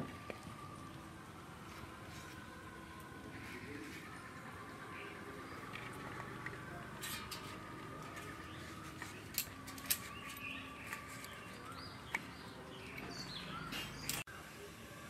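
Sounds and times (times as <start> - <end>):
birds chirping: 2.0 - 14.3.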